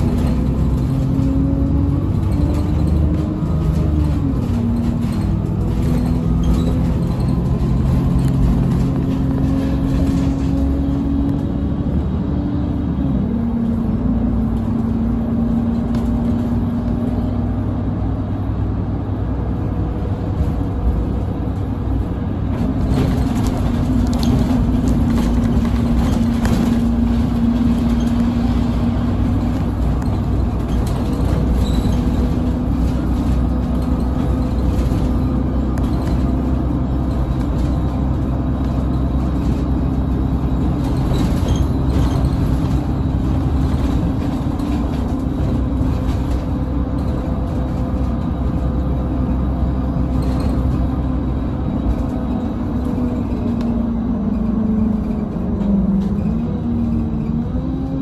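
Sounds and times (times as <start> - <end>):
bus drivetrain hum: 0.0 - 58.0
low road rumble: 0.0 - 58.0.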